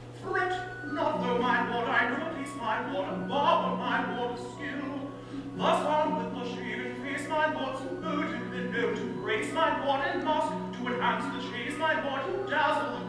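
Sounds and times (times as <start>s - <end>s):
man singing: 0.2s - 13.0s.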